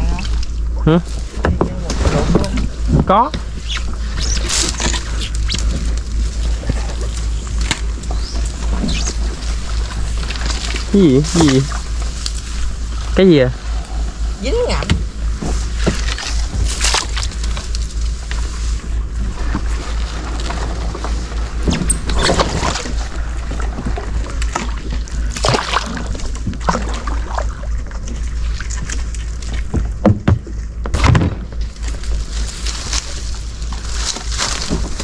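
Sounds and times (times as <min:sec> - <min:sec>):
shallow water sloshing and splashing: 0:00.0 - 0:35.0
steady low rumble: 0:00.0 - 0:35.0.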